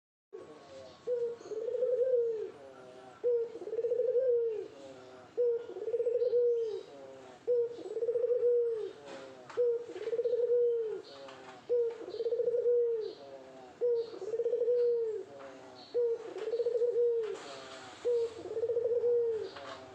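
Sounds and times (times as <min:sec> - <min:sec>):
dove cooing: 0:00.4 - 0:19.9.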